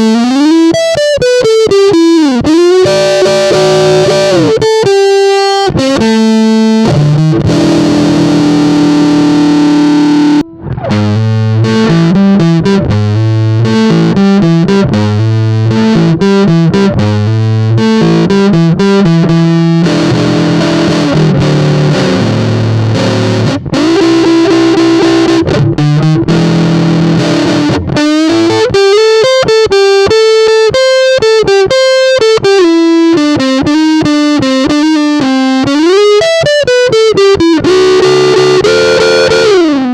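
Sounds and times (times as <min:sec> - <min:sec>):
fuzz electric guitar playing: 0:00.0 - 0:39.9.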